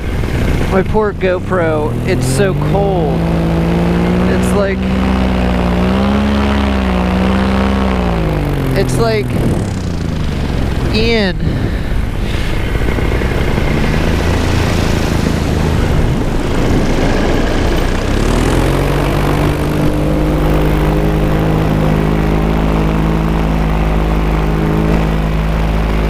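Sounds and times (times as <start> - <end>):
paramotor engine and propeller: 0.0 - 26.0
wind noise on microphone: 0.0 - 26.0.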